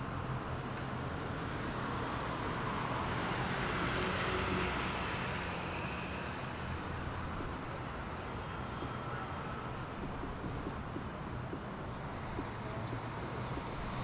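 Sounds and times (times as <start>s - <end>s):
hum of engines and tyres: 0.0s - 14.0s
cars passing: 1.2s - 14.0s.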